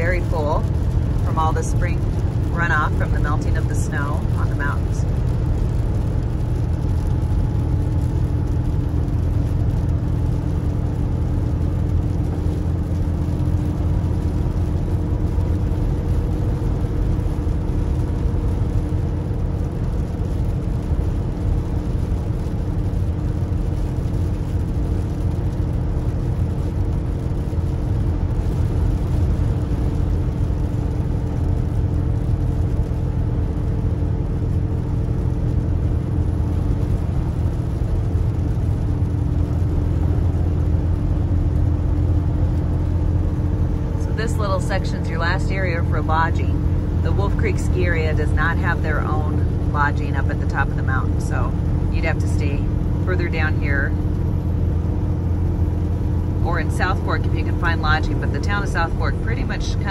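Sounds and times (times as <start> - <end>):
drivetrain hum: 0.0 - 59.9
engine and road rumble: 0.0 - 59.9.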